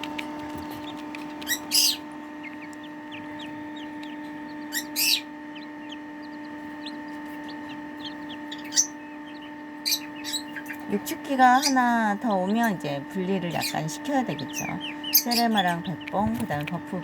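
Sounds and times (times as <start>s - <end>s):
chicks peeping: 0.0s - 17.0s
electrical hum: 0.0s - 17.0s.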